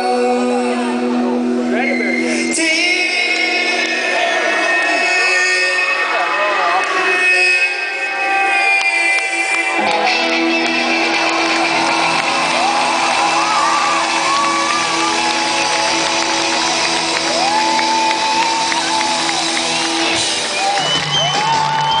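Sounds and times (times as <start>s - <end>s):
crowd shouting and whooping: 3.0s - 22.0s.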